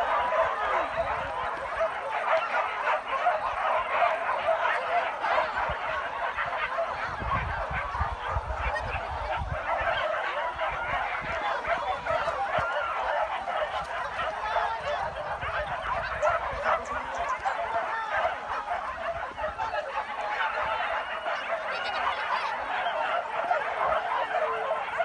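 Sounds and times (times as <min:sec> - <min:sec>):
dogs barking and yelping: 0:00.0 - 0:25.0.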